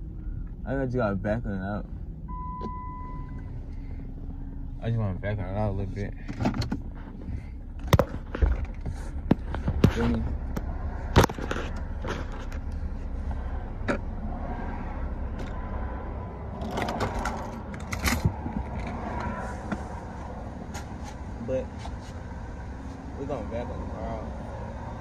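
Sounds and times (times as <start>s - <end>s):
low car rumble: 0.0s - 25.0s.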